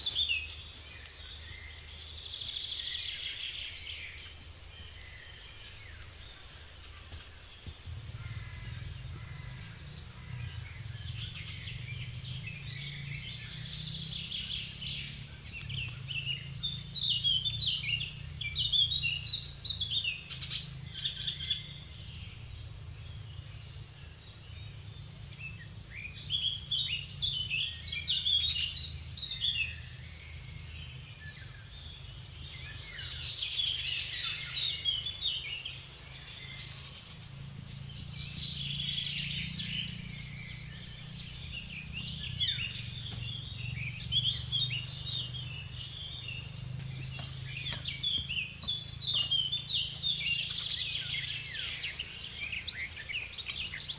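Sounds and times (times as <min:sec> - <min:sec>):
steady low rumble: 0:00.0 - 0:53.2
small birds chirping: 0:00.0 - 0:53.9.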